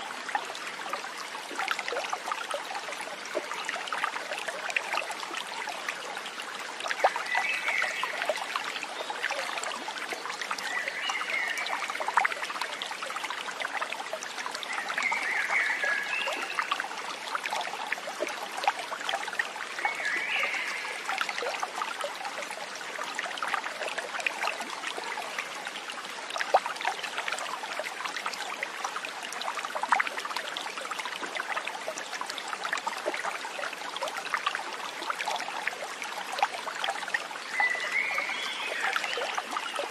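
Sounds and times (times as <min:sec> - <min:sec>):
stream burbling over stones: 0:00.0 - 0:39.9.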